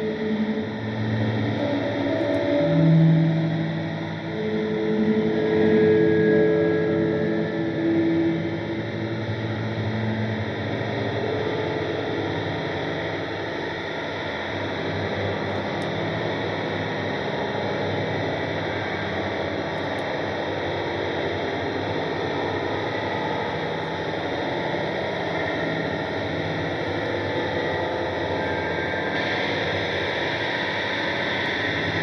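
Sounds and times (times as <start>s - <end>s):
noise music hiss and drone: 0.0s - 32.0s.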